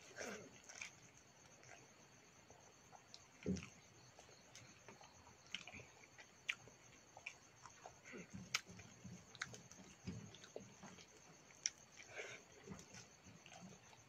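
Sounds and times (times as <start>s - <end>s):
chewing and lip smacks: 2.6s - 14.0s.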